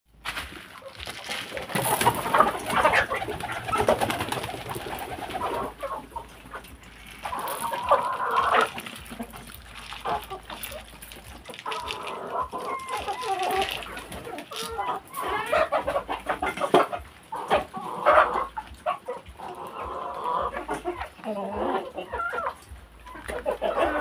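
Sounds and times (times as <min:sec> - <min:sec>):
chickens pecking at grain: 0:00.1 - 0:24.0
chickens clucking: 0:00.5 - 0:24.0
pigeon cooing: 0:01.7 - 0:24.0.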